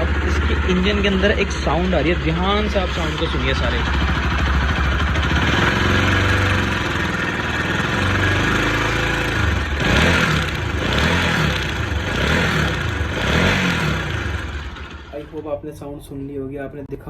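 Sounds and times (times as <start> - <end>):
engine rattle: 0.0 - 16.1
motorcycle engine idling and revving: 0.0 - 16.2.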